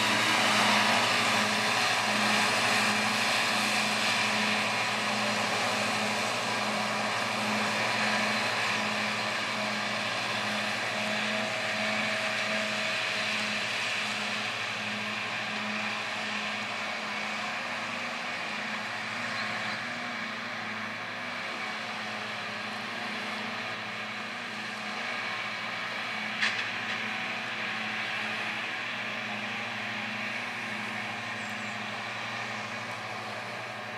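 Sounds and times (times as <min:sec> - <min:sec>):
tractor engine hum: 0:00.0 - 0:33.9.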